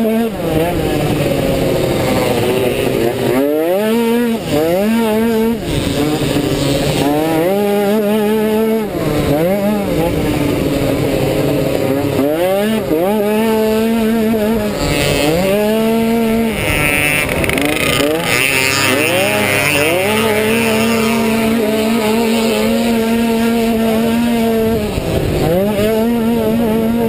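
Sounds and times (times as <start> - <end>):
scooter engine revving: 0.0 - 27.0.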